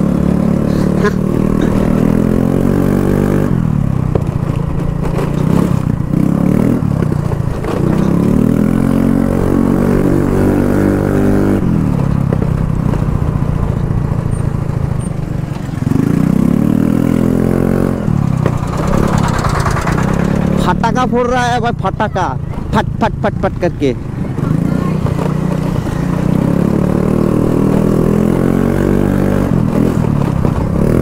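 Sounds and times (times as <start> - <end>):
scooter engine revving: 0.0 - 31.0.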